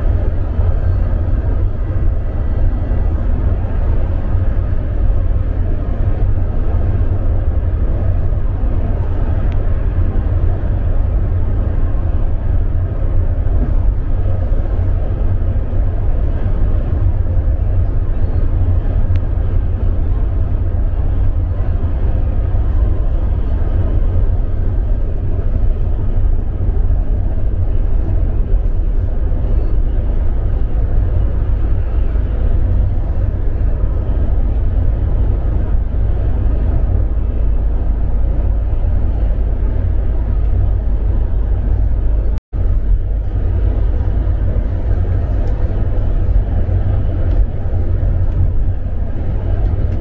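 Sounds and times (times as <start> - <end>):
bus engine and road rumble: 0.0 - 50.0.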